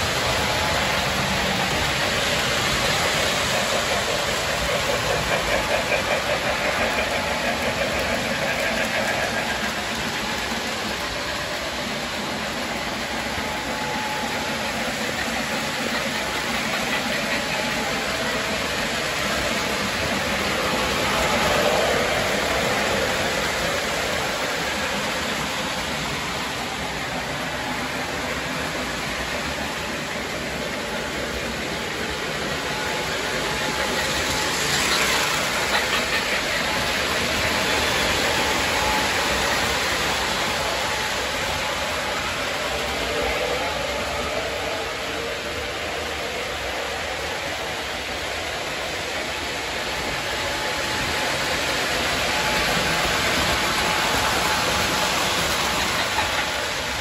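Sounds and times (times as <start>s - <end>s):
model trains rumbling on track: 0.0s - 57.0s.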